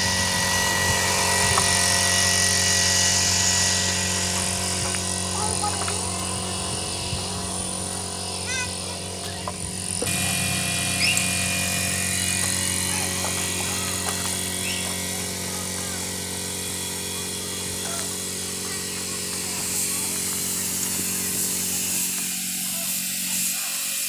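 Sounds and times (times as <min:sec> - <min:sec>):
air compressor humming: 0:00.0 - 0:24.0
spray gun hissing: 0:00.0 - 0:24.0.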